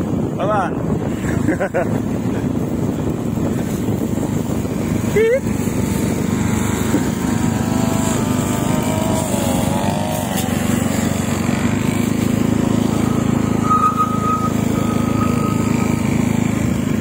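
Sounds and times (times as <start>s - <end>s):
brush cutters cutting grass: 1.4s - 17.0s.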